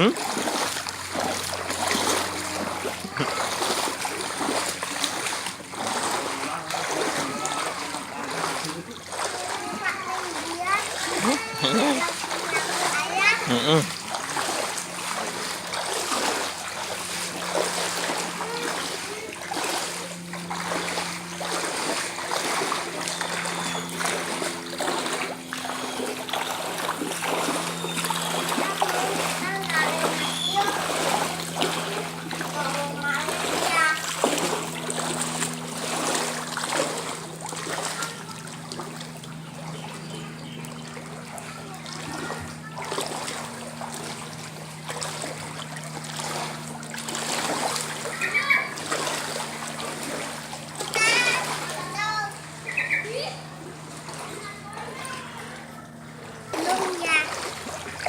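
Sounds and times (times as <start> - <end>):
floodwater splashing and flowing: 0.0 - 58.0
steady low hum: 0.0 - 58.0.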